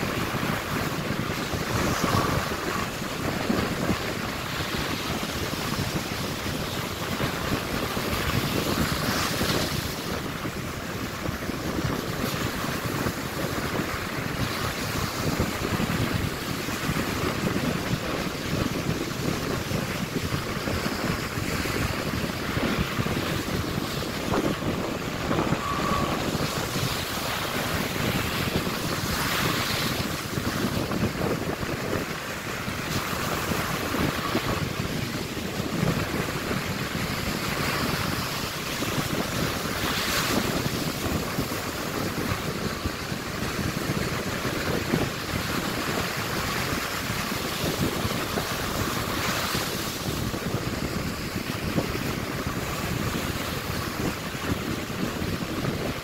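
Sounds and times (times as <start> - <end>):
ocean waves breaking on beach: 0.0 - 56.0
wind buffeting microphone: 0.0 - 56.0.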